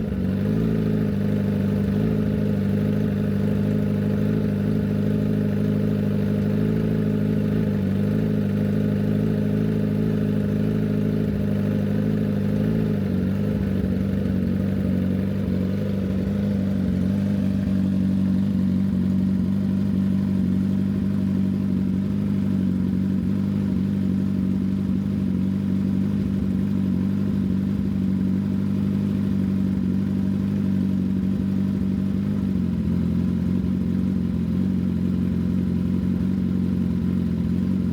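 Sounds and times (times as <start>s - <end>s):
motorcycle engine idling: 0.0s - 37.9s.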